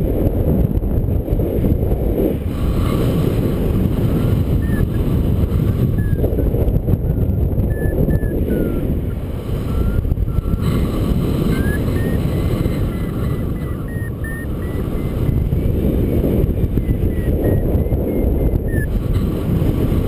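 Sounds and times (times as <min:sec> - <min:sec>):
wind buffeting microphone: 0:00.0 - 0:20.0
variometer electronic beeping: 0:03.8 - 0:20.0.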